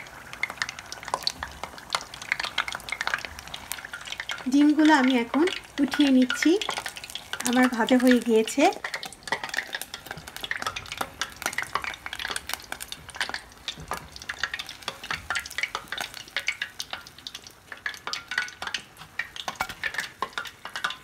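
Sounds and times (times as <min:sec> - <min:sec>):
hot oil crackling and sizzling: 0:00.0 - 0:21.0.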